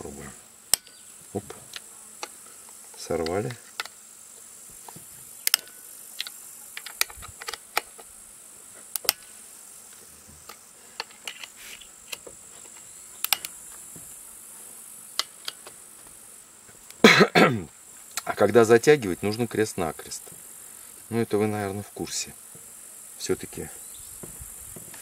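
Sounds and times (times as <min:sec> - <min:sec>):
high insect chirring: 0:00.0 - 0:25.0.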